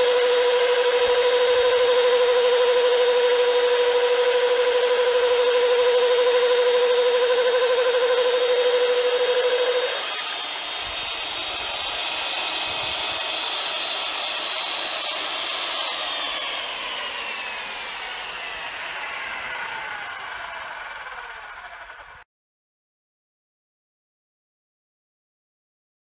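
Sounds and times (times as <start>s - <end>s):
core drill whining: 0.0s - 22.2s.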